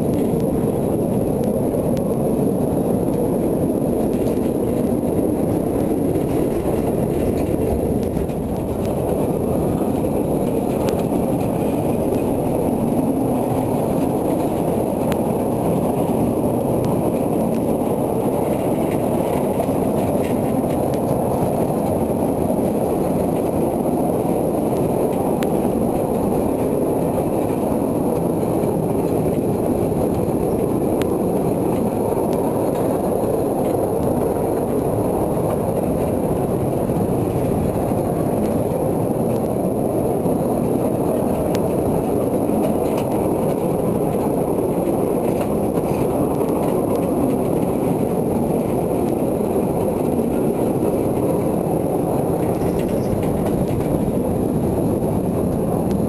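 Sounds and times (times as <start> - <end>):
rumble of wheels on rails: 0.0 - 56.0.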